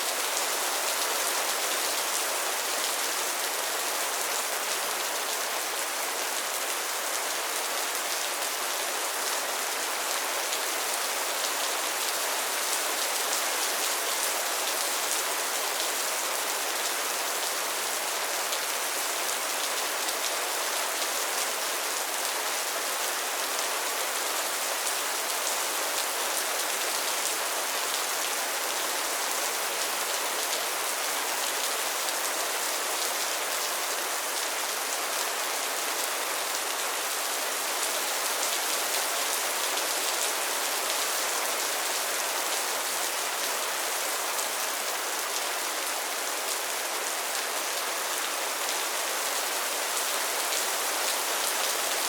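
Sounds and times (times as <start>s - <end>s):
rain falling on a pond: 0.0s - 52.0s.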